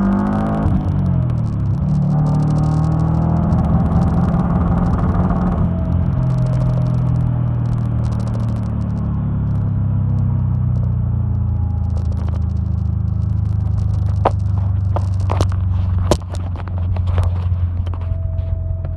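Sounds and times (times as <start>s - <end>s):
car engine running: 0.0s - 18.9s.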